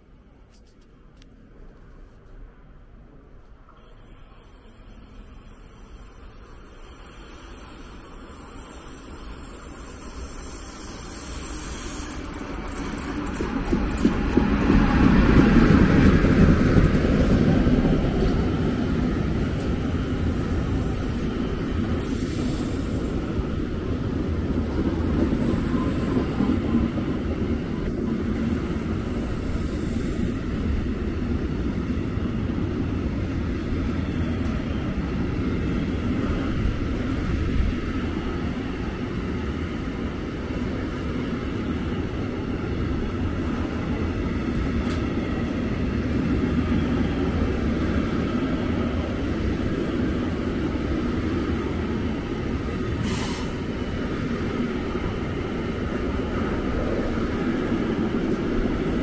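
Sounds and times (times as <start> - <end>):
train rumble on rails: 0.0 - 59.0.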